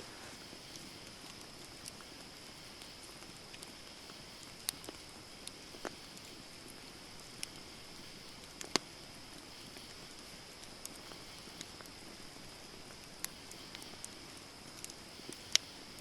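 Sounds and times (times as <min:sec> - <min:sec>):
campfire crackling and popping: 0:00.0 - 0:16.0
steady high hiss: 0:00.0 - 0:16.0.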